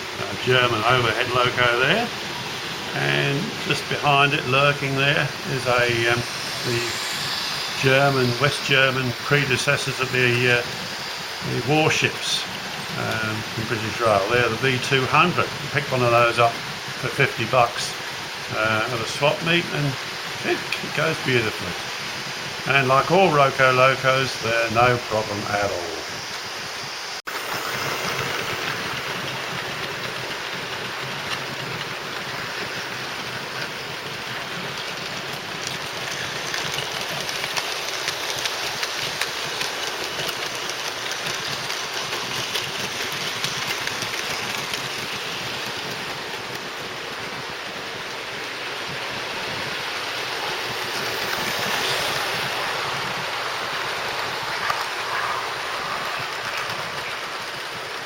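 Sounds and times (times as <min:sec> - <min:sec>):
model train motor whirr: 0:00.0 - 0:58.0
wheels clicking over rail joints: 0:00.0 - 0:58.0.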